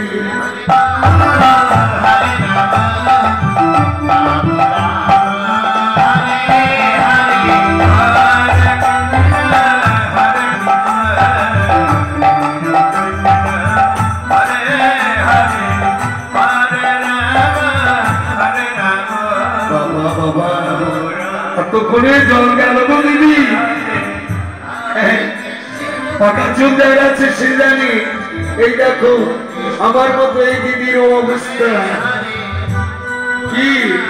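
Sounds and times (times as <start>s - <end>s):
harmonium notes: 0.0s - 34.0s.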